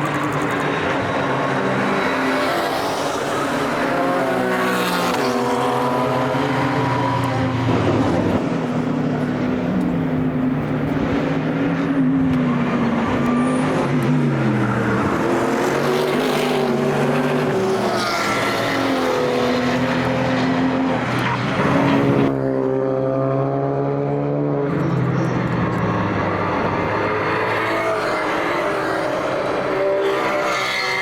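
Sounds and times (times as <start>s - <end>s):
race cars passing: 0.0s - 31.0s.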